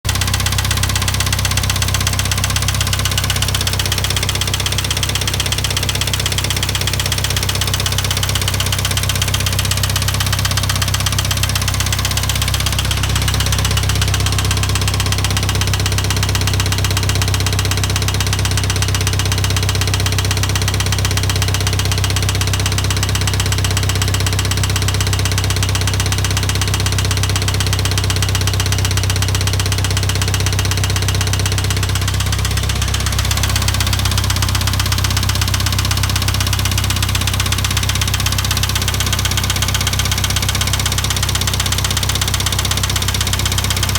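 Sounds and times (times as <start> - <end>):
repeating engine knock: 0.0 - 43.9
tractor engine running: 0.0 - 43.9.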